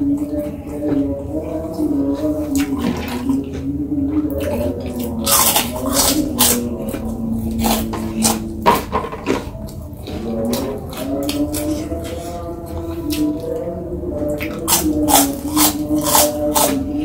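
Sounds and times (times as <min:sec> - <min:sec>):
wet chewing and mouth sounds: 0:00.0 - 0:17.0.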